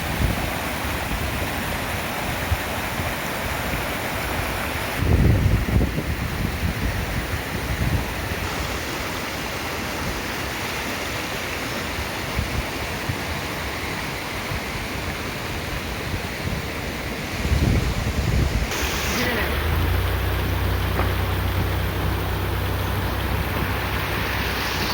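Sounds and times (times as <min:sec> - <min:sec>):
water rushing over stones: 0:00.0 - 0:24.9.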